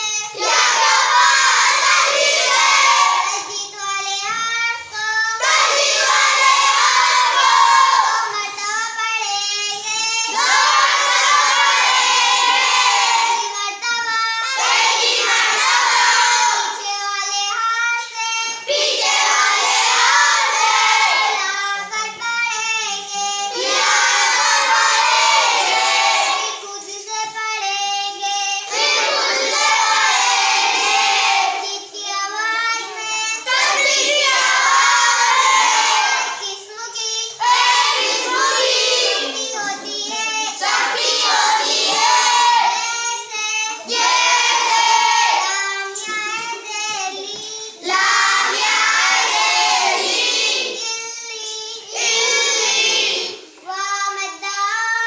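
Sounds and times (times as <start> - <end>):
children chanting in unison: 0.0 - 55.0.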